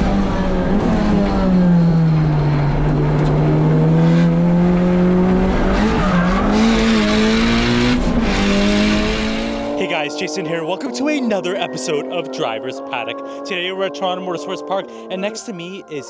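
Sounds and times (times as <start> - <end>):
car engine running hard: 0.0 - 15.2.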